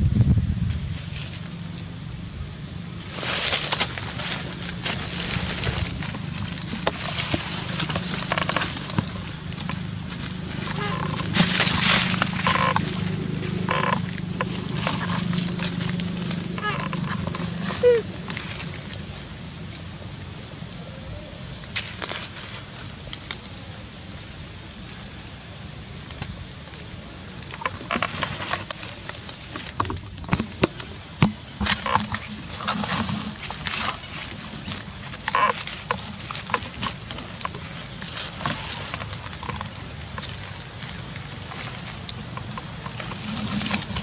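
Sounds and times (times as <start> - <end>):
high-pitched insect drone: 0.0 - 44.0
monkeys rustling in dry leaves: 0.7 - 1.7, 3.0 - 19.4, 21.7 - 23.4, 27.1 - 44.0.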